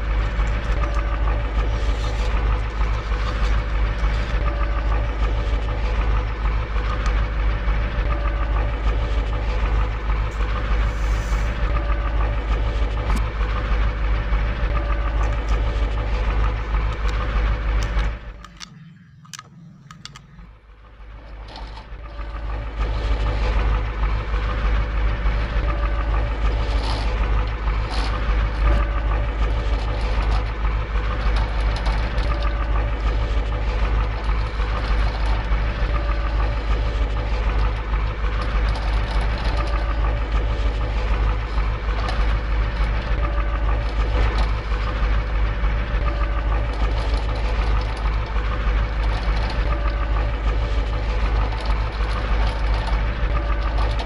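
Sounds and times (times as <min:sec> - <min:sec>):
heavy truck engine rumble: 0:00.0 - 0:54.0.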